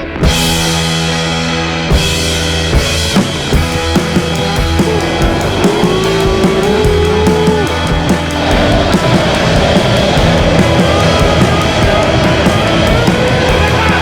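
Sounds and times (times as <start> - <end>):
rock music with drums and guitar: 0.0 - 14.0.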